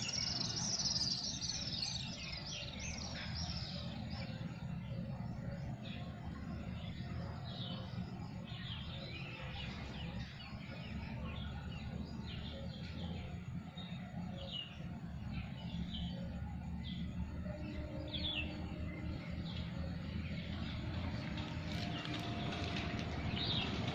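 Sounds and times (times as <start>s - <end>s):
low background rumble: 0.0s - 23.9s
small birds chirping: 0.0s - 23.9s.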